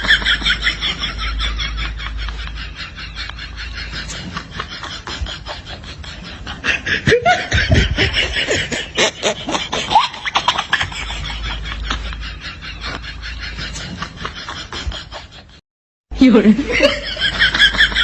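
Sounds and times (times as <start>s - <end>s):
breathy squeaky laughter: 0.0s - 15.6s.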